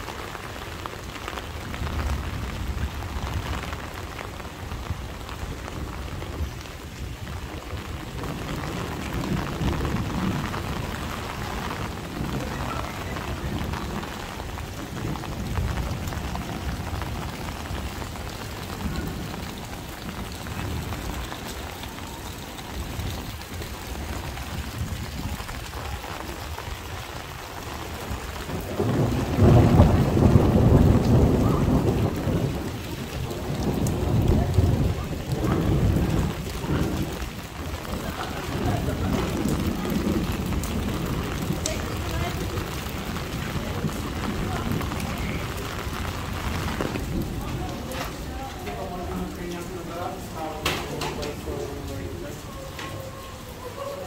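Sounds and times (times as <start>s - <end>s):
heavy rain pouring: 0.0s - 54.0s
thunder rumbling: 0.0s - 54.0s.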